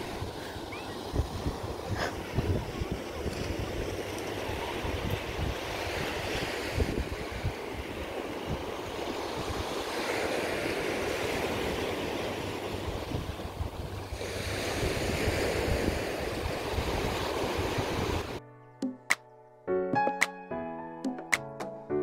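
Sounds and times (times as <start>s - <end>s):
small waves breaking on sand: 0.0s - 18.4s
wind rumbling on microphone: 0.0s - 18.4s.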